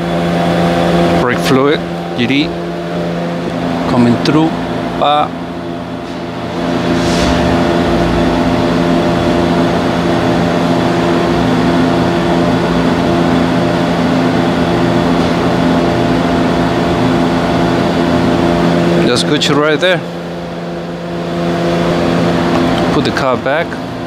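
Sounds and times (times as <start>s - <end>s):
steady engine-like hum: 0.0s - 24.0s.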